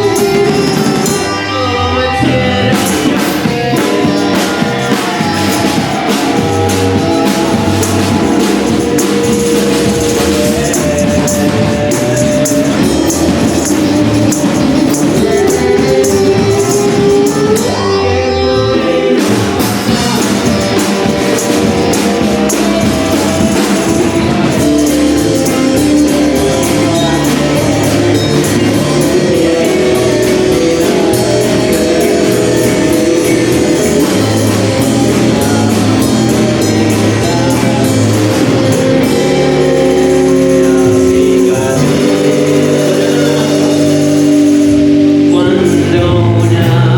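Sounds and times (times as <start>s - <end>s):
drum kit and cymbals: 0.0s - 46.9s
live band playing: 0.0s - 46.9s
person singing: 0.0s - 46.9s.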